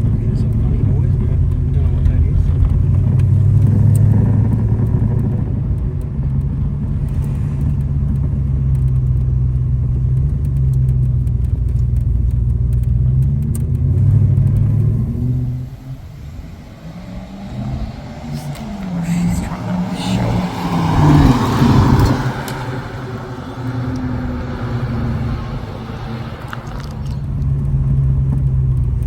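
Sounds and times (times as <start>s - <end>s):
car engine rumbling: 0.0s - 29.0s.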